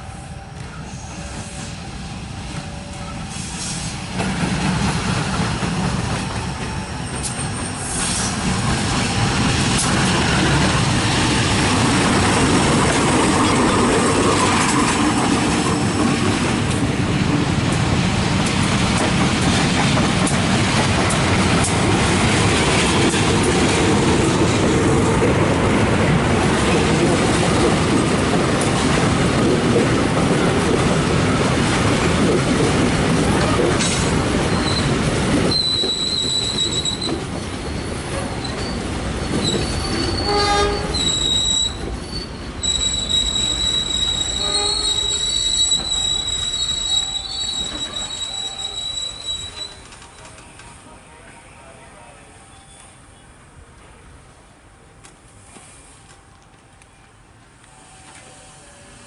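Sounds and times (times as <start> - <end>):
train running on track: 0.0 - 59.0.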